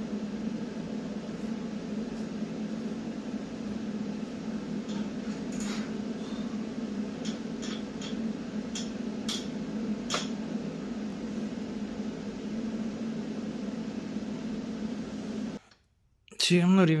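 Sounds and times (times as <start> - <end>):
welding machine humming: 0.0 - 15.6.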